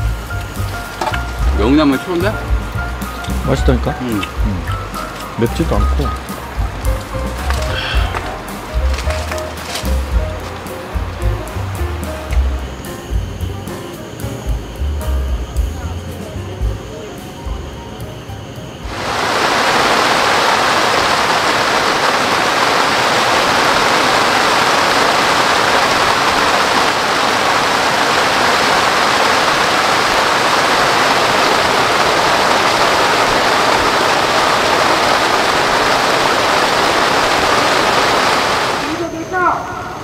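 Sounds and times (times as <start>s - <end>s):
roar of rushing water in rain: 0.0s - 13.3s, 18.8s - 39.0s.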